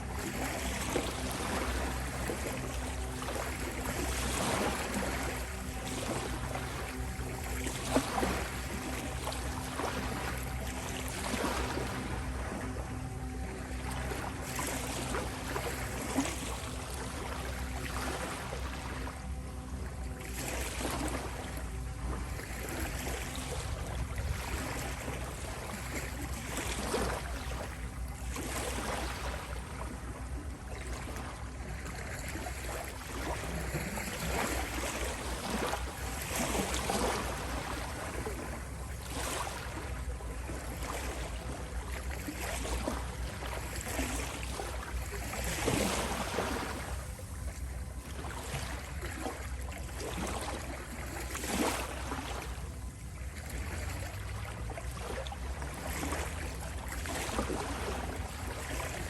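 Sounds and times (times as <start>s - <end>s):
low rumble of surf: 0.0s - 59.0s
ocean waves breaking: 0.0s - 59.0s.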